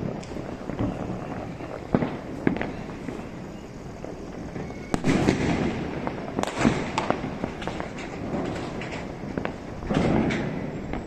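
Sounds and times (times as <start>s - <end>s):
distant firecrackers popping: 0.0s - 11.0s
firework bangs: 0.0s - 11.0s.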